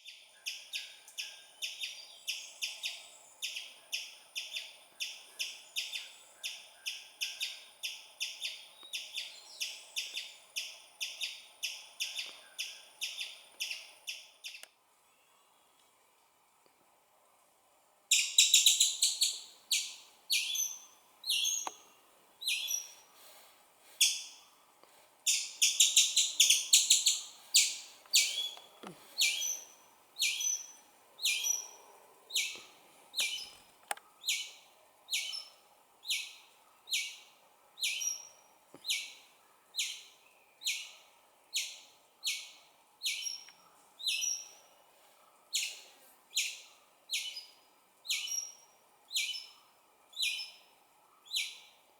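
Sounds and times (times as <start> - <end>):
baby squirrel chirping: 0.0 - 14.6, 18.1 - 21.8, 22.4 - 23.0, 25.3 - 32.6, 33.2 - 33.6, 34.2 - 39.2, 39.8 - 44.6, 45.5 - 50.6, 51.2 - 51.7.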